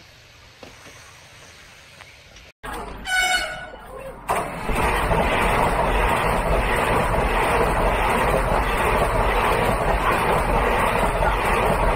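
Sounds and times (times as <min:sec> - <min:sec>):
wind: 0:00.0 - 0:11.9.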